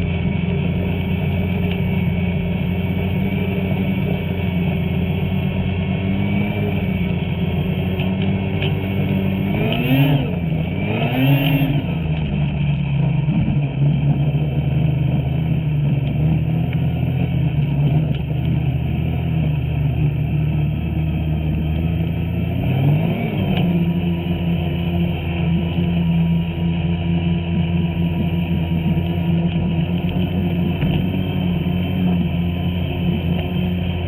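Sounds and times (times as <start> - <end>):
snowmobile engine revving: 0.0 - 34.0.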